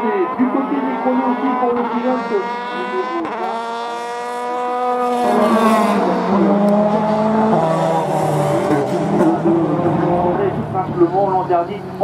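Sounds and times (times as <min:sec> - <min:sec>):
racing car passing at speed: 0:00.0 - 0:12.0.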